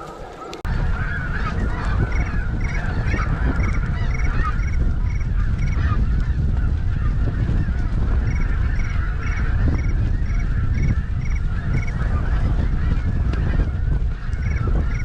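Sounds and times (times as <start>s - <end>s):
snow geese honking: 0.0s - 15.0s
wind rumble on microphone: 0.0s - 15.0s.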